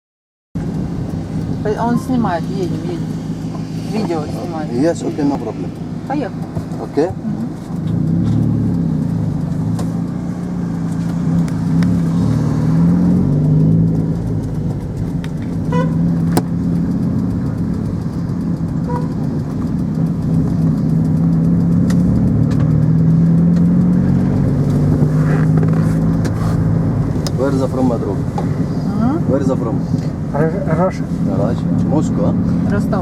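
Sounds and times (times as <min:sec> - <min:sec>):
road rumble: 0:00.6 - 0:33.0
vehicle engine accelerating and shifting: 0:00.6 - 0:33.0.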